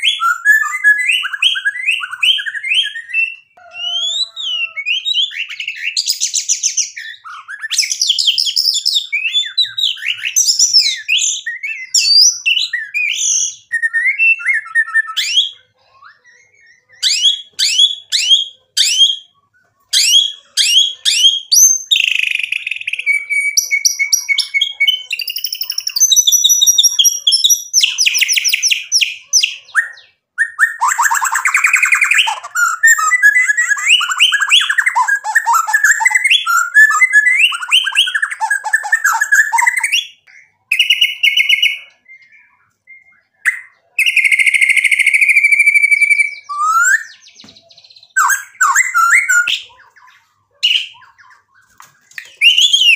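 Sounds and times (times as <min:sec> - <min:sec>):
songbird singing whistled trills: 0:00.0 - 0:52.9.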